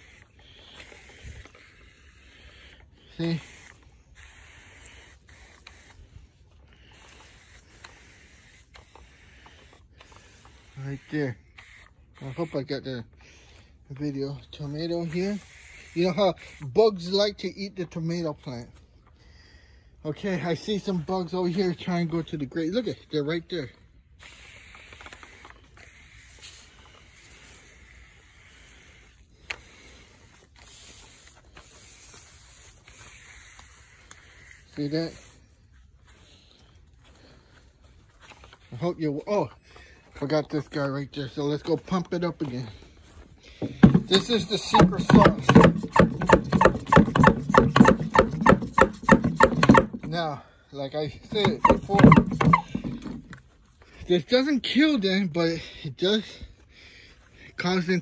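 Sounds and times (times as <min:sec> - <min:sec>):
garden sprayer hissing: 0:00.0 - 0:18.6, 0:20.1 - 0:55.3.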